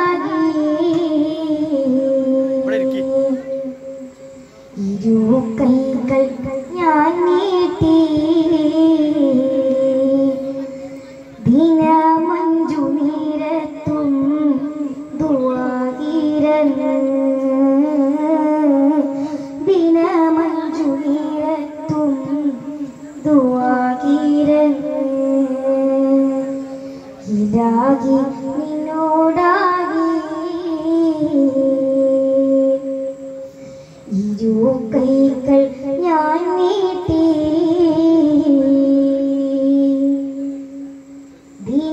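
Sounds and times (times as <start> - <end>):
high voice singing: 0.0 - 40.9, 41.6 - 41.9.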